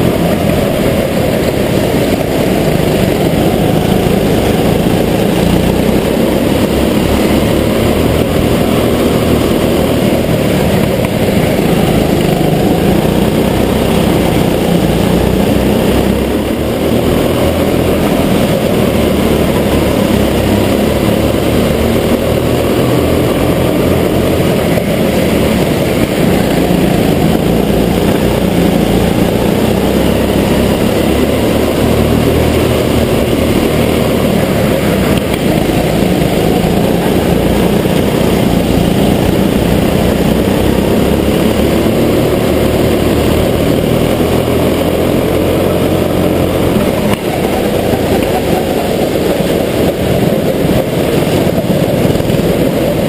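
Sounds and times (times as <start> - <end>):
go-kart engine running loud: 0.0 - 53.0.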